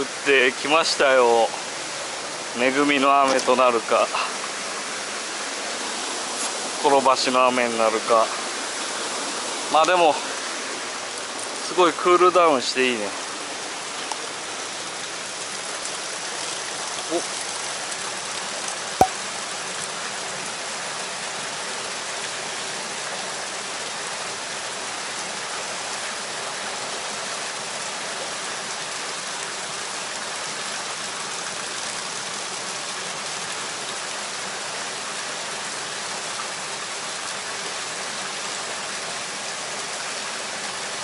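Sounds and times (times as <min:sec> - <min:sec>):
rain falling on water: 0:00.0 - 0:41.0.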